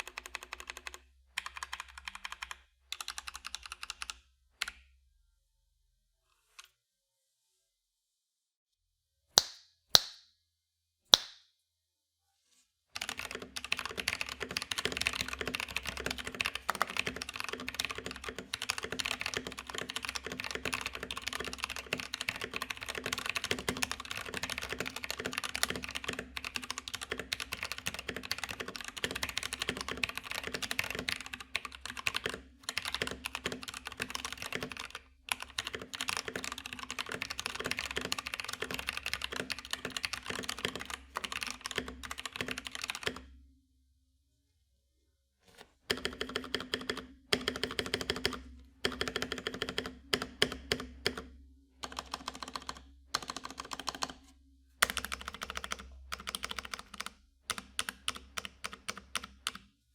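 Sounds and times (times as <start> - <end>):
mechanical keyboard typing: 0.0 - 4.8, 13.0 - 43.3, 45.9 - 54.2, 54.8 - 59.7.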